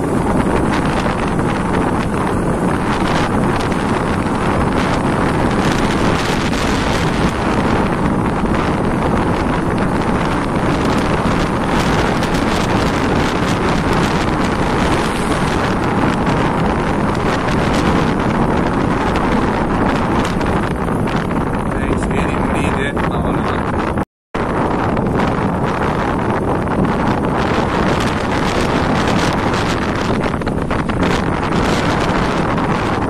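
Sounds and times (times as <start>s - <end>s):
vehicle running noise: 0.0s - 33.0s
wind rushing over microphone: 0.0s - 33.0s.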